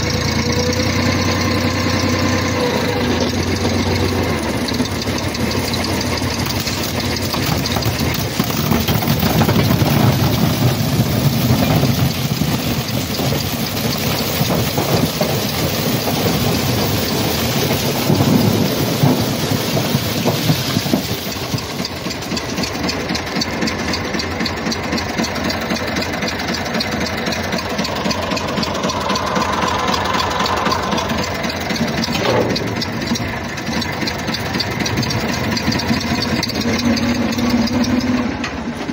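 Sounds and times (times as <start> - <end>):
corn picker clattering: 0.0 - 38.9
tractor diesel engine running: 0.0 - 38.9.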